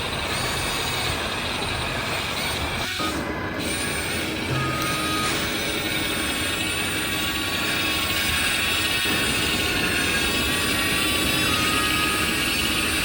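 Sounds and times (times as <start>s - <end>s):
toy excavator motors whirring: 0.0s - 13.0s.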